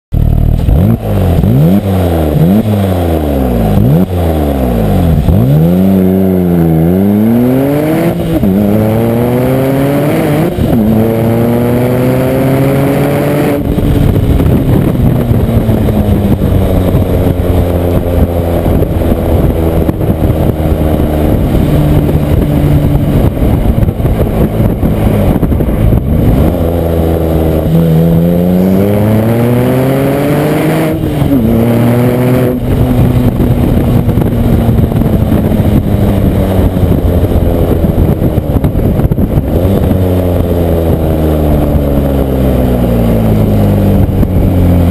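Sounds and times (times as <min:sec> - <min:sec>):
car engine accelerating through gears: 0:00.1 - 0:44.9
sports car engine revving: 0:00.2 - 0:44.9.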